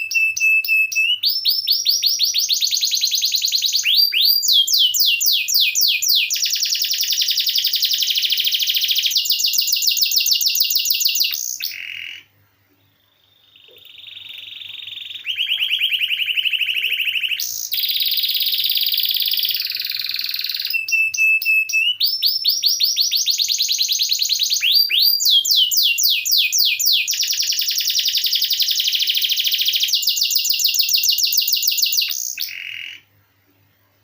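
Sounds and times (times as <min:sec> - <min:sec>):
canary singing trills: 0:00.0 - 0:33.1.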